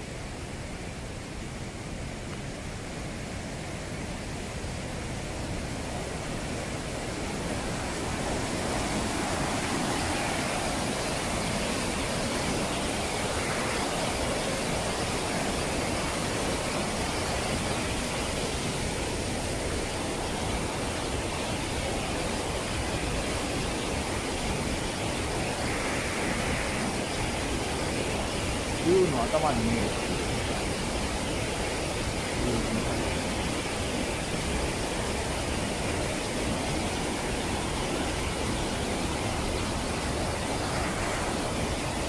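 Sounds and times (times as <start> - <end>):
waterfall rushing over rock: 0.0 - 42.0.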